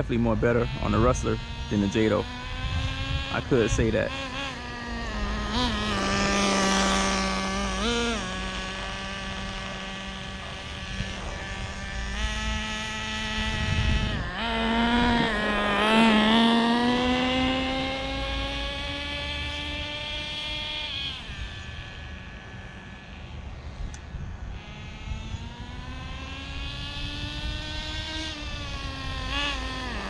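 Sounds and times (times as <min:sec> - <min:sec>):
small nitro engine buzzing: 0:00.0 - 0:30.0.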